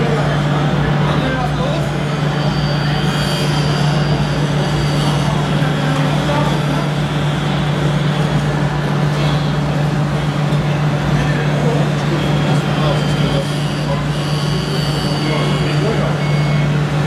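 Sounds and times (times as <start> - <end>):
crowd noise with indistinct voices: 0.0 - 17.0.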